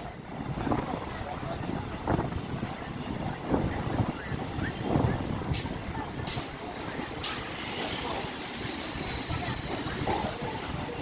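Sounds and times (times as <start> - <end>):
train rolling rumble: 0.0 - 11.0.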